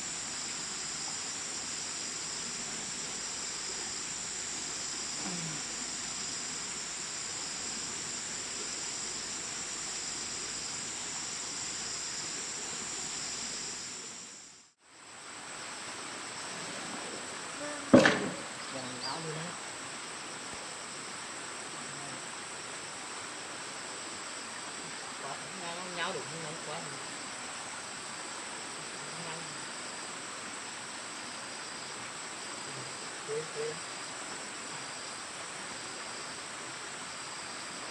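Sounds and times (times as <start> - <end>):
constant hiss: 0.0 - 37.9
insect drone: 0.0 - 37.9.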